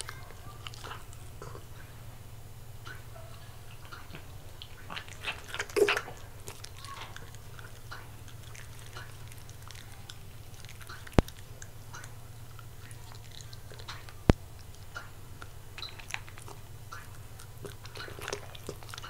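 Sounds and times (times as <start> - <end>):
dog chewing meat: 0.0 - 19.0
faint steady hum: 0.0 - 19.0.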